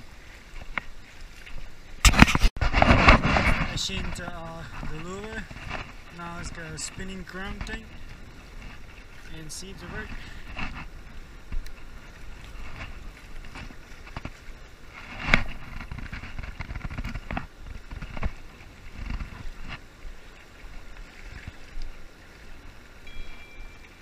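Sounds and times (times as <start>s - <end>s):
choppy river water rushing: 0.0s - 24.0s
wind buffeting the microphone: 0.0s - 24.0s.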